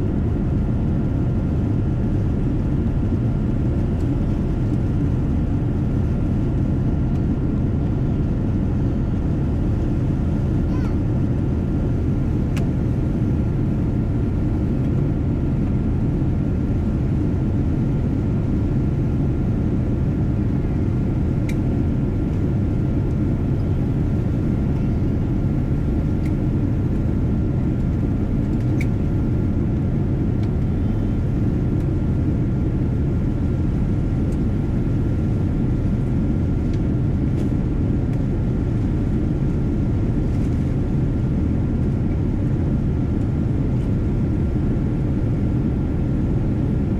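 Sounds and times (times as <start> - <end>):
jet engine roar in cabin: 0.0 - 46.9.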